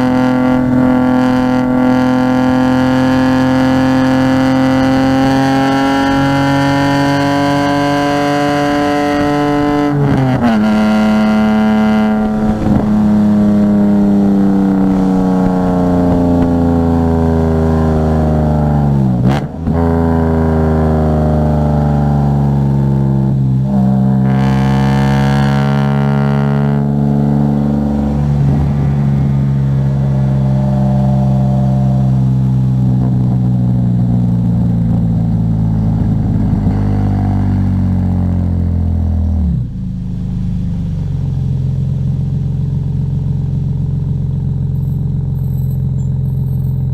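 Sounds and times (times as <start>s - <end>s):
car engine running under load: 0.0s - 46.9s.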